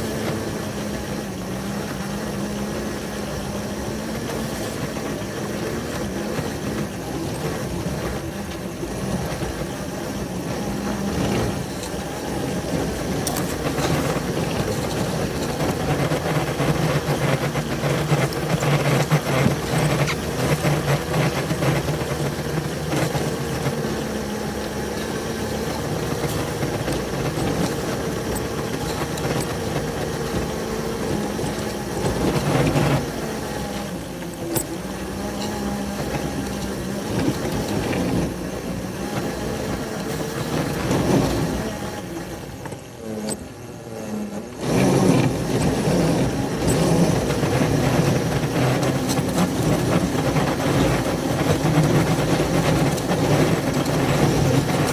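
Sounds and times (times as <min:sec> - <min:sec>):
locomotive engines running: 0:00.0 - 0:54.9.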